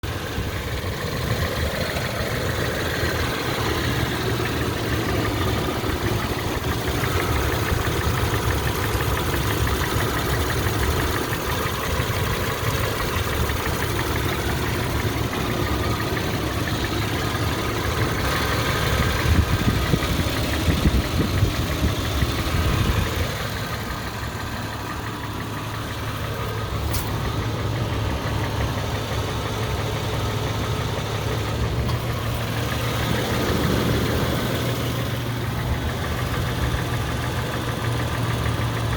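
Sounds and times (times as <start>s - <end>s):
engine running: 0.0s - 38.9s
fast even valvetrain ticking: 0.0s - 38.9s.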